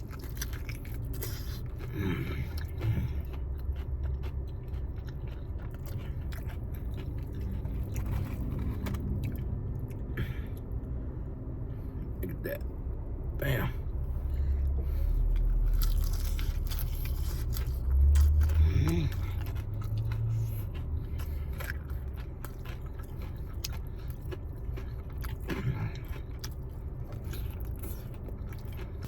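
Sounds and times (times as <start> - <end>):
person chewing chicken wings: 0.0 - 11.1, 14.3 - 29.0
low rumble: 0.0 - 29.0.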